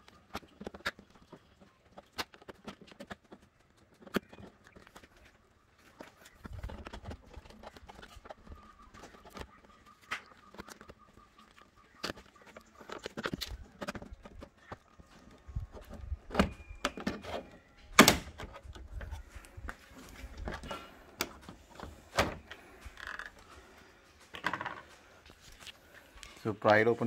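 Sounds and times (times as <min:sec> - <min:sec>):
plastic clicks and scrapes: 0:00.0 - 0:23.6.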